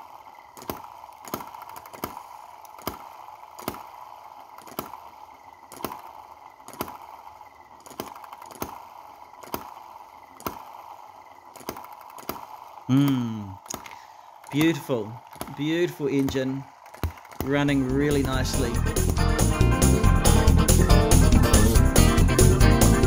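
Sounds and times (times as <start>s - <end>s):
model engine running slowly: 0.0s - 23.0s.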